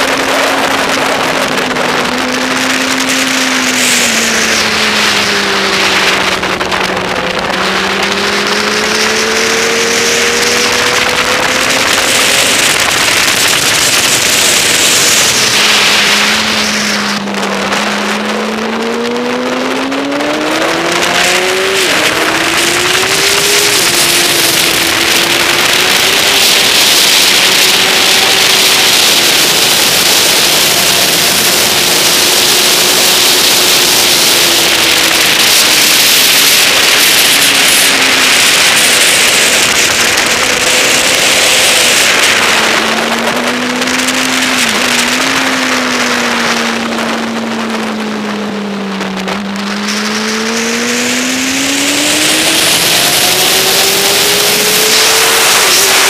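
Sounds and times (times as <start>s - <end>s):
motorcycle engine: 0.0s - 56.0s
wind rush on microphone: 0.0s - 56.0s.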